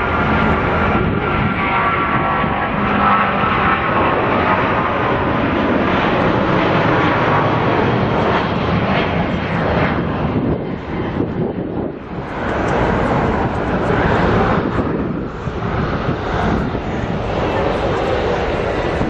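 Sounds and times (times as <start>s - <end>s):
jet engine whine: 0.0s - 19.0s
jet engines roaring: 0.0s - 19.0s.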